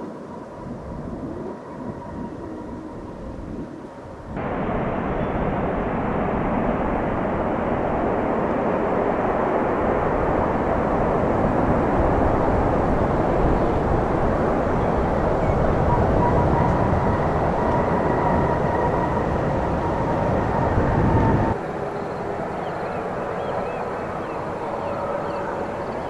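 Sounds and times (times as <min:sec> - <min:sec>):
jet engine roar: 0:00.0 - 0:26.0.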